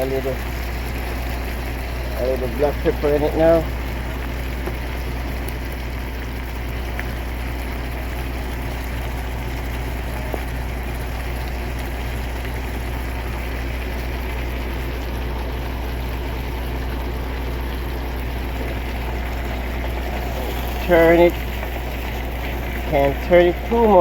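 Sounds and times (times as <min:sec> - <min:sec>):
diesel engine idling: 0:00.0 - 0:24.0
food sizzling in a pan: 0:00.4 - 0:24.0.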